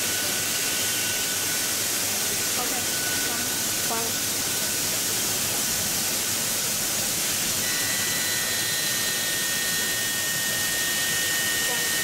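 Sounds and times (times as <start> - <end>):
thin high whine: 0.0 - 5.0, 7.3 - 12.0
workshop background hiss: 0.0 - 12.0.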